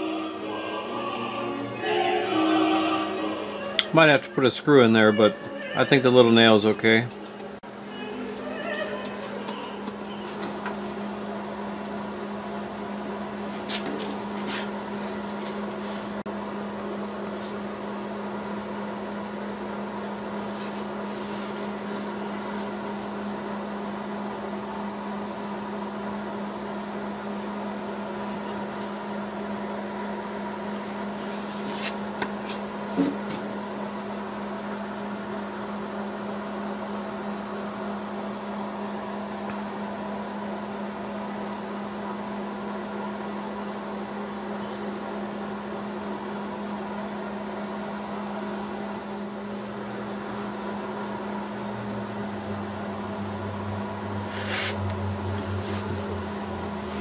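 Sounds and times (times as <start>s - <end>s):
electrical machine hum: 0.0s - 57.0s.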